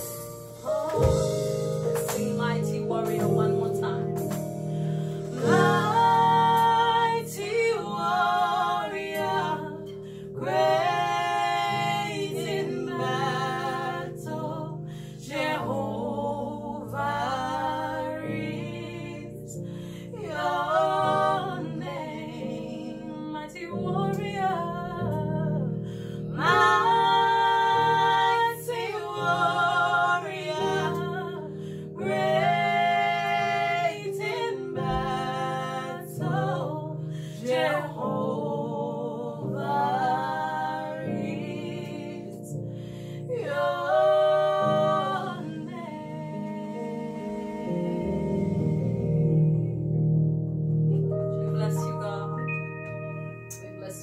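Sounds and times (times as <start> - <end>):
electric keyboard chords: 0.0 - 54.0
women singing: 0.6 - 50.0, 51.0 - 54.0.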